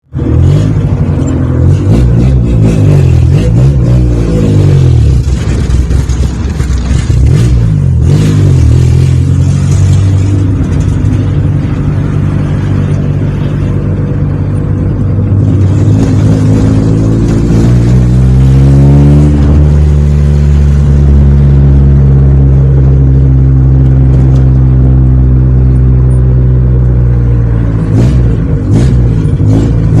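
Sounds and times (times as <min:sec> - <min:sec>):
unmuffled car exhaust revving: 0:00.1 - 0:30.0.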